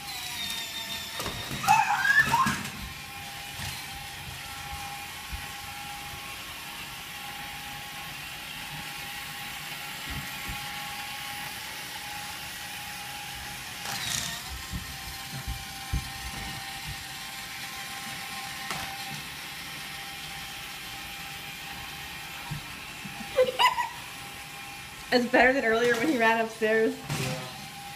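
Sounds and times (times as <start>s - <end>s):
toy car motor whining: 0.0s - 6.4s, 10.4s - 22.0s, 23.1s - 27.9s.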